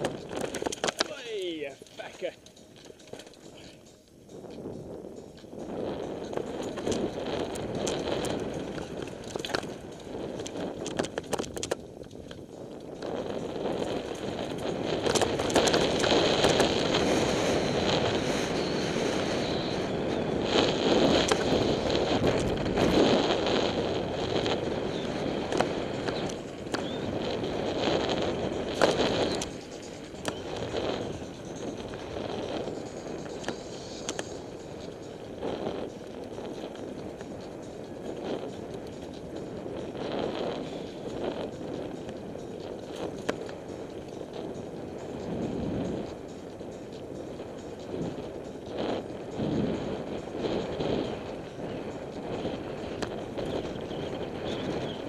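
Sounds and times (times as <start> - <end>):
bike rattling over bumps: 0.0 - 55.0
bike tyres on gravel: 0.0 - 55.0.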